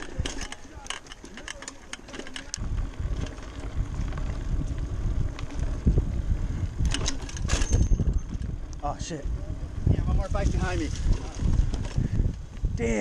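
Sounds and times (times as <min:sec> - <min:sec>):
mountain bike rattling over rocks: 0:00.0 - 0:12.4
wind buffeting microphone: 0:02.5 - 0:13.0.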